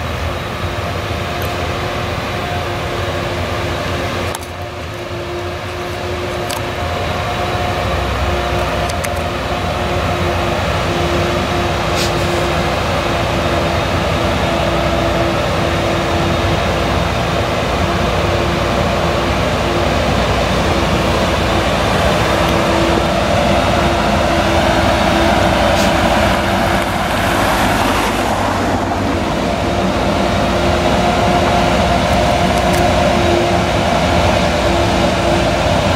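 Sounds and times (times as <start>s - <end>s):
harvester engine running: 0.0s - 35.9s.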